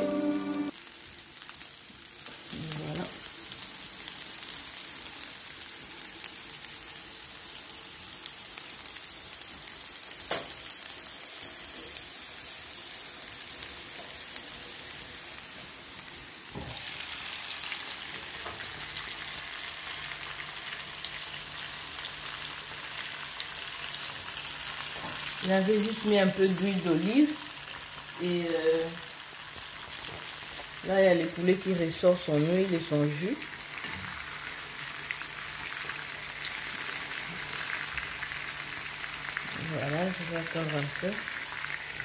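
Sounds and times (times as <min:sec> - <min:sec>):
chicken frying in a pan: 0:00.0 - 0:42.0.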